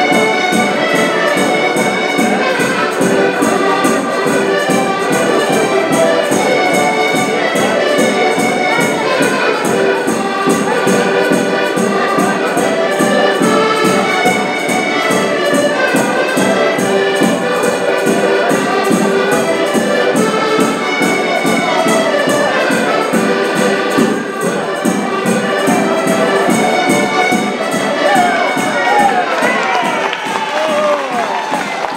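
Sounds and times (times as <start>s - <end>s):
button accordions playing: 0.0s - 31.9s.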